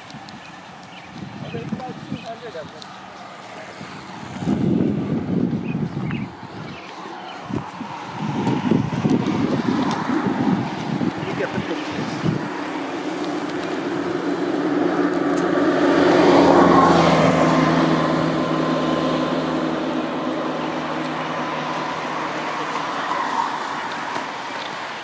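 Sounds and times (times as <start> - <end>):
engine passing by: 0.0 - 25.0.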